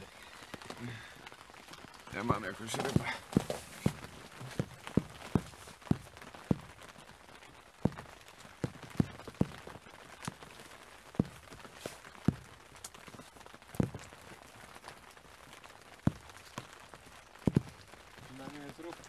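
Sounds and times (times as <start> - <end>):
faint outdoor background: 0.0 - 19.0
raindrops ticking on microphone: 0.0 - 19.0.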